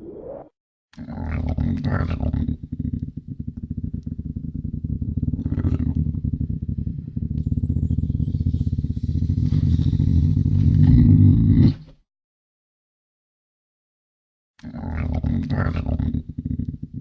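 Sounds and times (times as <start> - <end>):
lynx growling: 0.0 - 11.9, 14.6 - 17.0.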